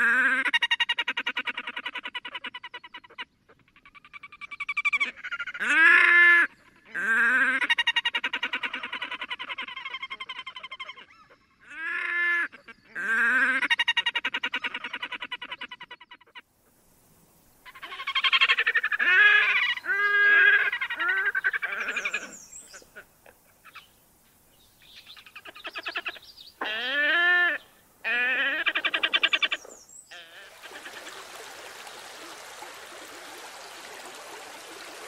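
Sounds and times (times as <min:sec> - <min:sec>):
grebes braying and wailing calls: 0:00.2 - 0:16.4, 0:17.7 - 0:23.9, 0:24.9 - 0:31.4.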